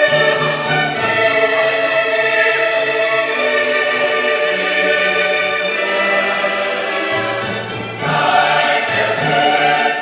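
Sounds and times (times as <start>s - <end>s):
choir with orchestra: 0.0s - 10.0s.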